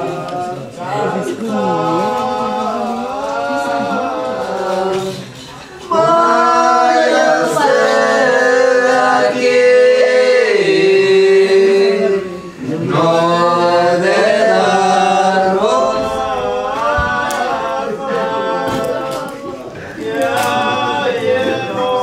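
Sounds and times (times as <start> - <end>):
unaccompanied voices singing: 0.0 - 22.0.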